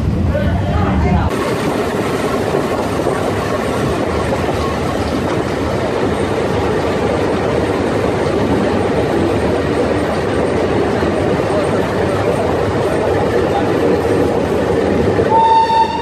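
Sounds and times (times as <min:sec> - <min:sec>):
train wheels on rails: 0:01.2 - 0:16.0.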